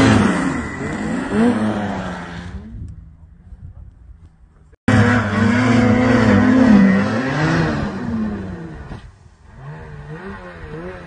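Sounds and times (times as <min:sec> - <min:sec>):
snowmobile engine revving: 0:00.0 - 0:02.9, 0:04.9 - 0:11.0.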